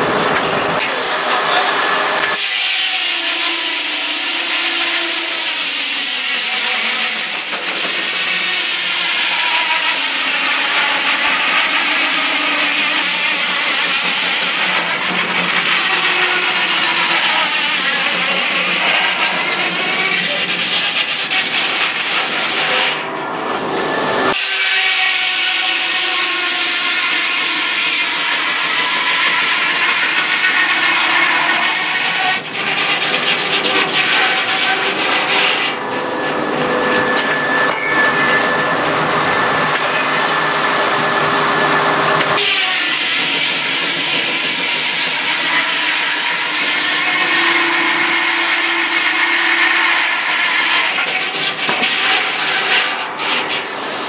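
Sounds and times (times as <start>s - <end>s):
saw cutting through wood: 0.0s - 54.0s.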